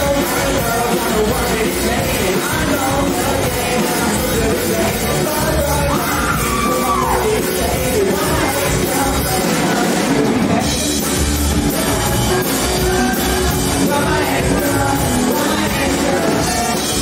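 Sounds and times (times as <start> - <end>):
bass guitar: 0.0 - 17.0
electric guitar: 0.0 - 17.0
man singing: 0.0 - 17.0.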